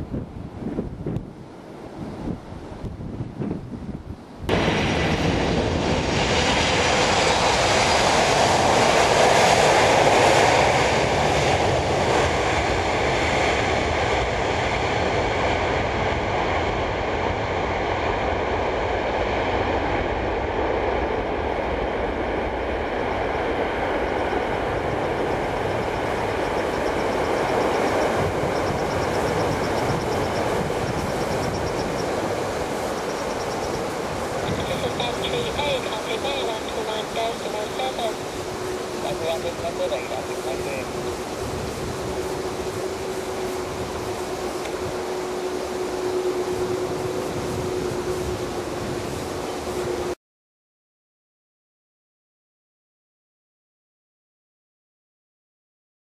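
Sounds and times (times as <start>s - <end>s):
jet engines roaring with fan whine: 0.0s - 50.2s.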